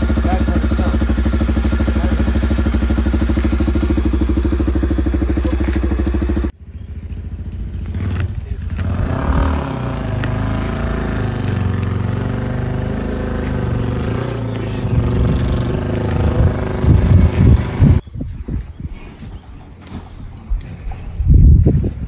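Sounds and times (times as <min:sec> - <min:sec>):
dirt bike engine idling: 0:00.0 - 0:18.0
motorcycle riding on dirt track: 0:00.0 - 0:18.0.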